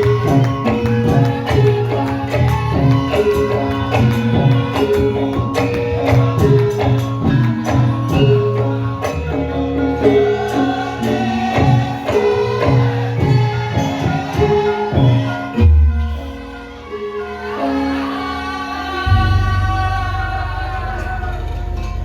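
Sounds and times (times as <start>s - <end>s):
pitched metal percussion: 0.0s - 22.0s.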